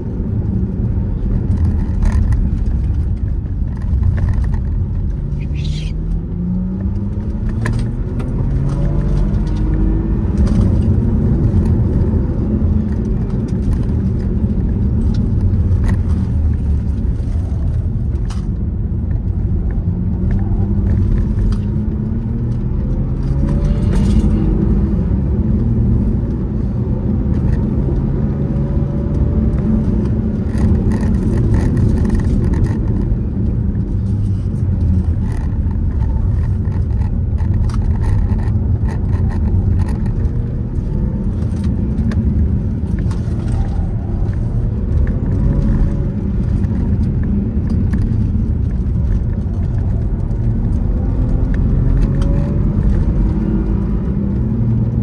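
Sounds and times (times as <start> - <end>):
car engine accelerating: 0.0 - 55.0
road and wind rumble: 0.0 - 55.0.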